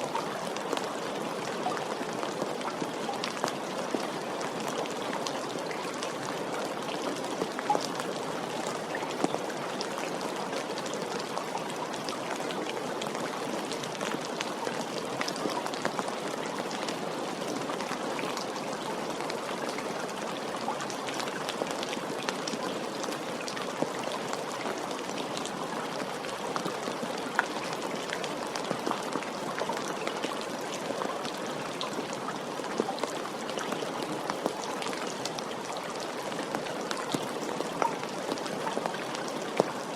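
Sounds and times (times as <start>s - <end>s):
gentle rain hissing: 0.0s - 39.9s
raindrops pattering on a surface: 0.0s - 39.9s.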